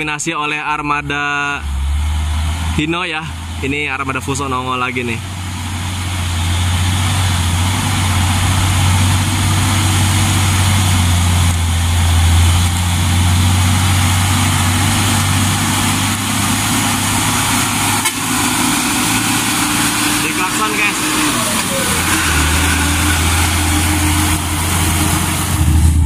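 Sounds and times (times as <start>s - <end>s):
diesel truck engine droning: 0.0s - 26.0s.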